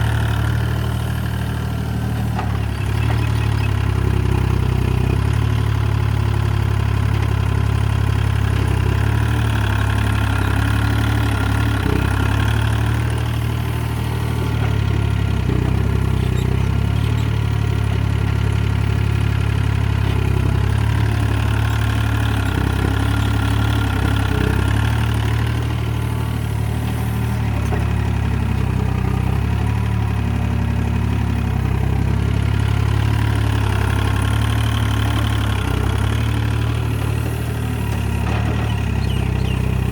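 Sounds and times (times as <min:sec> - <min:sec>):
mini excavator diesel engine: 0:00.0 - 0:39.9.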